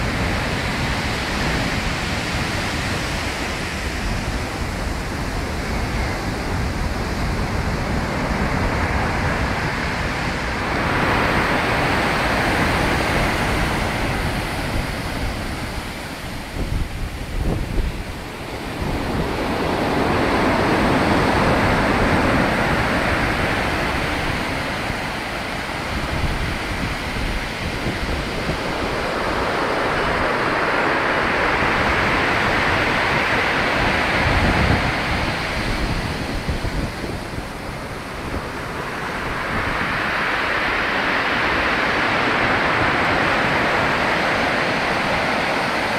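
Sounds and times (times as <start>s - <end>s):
waves breaking on shore: 0.0s - 45.9s.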